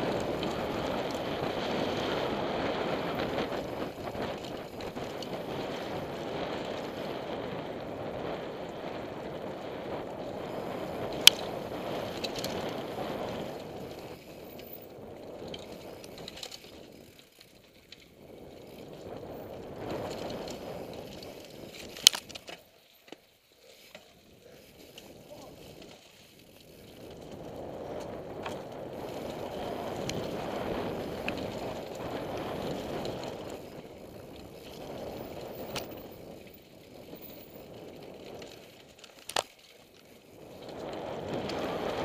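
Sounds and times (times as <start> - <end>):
bike rattling: 0.0 - 42.0
tyre and wind noise: 0.0 - 42.0.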